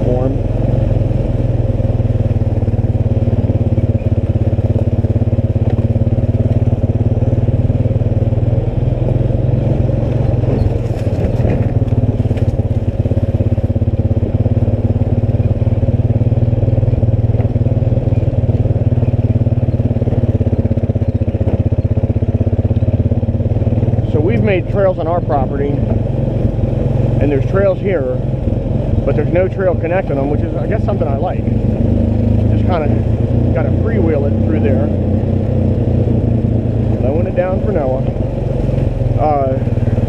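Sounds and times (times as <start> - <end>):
atv engine running: 0.0 - 40.0.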